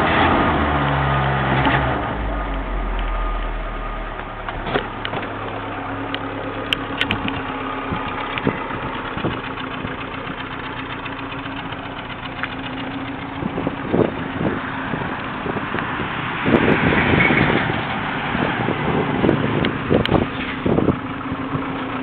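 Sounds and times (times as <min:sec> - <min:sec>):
truck engine idling: 0:02.0 - 0:22.0.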